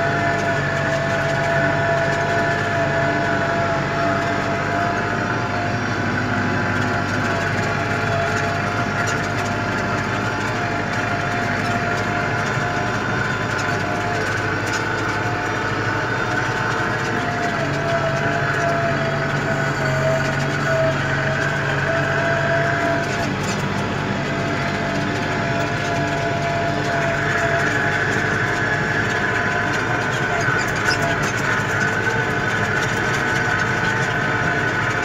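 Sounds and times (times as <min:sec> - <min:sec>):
steady whine: 0:00.0 - 0:35.0
tractor engine running: 0:00.0 - 0:35.0.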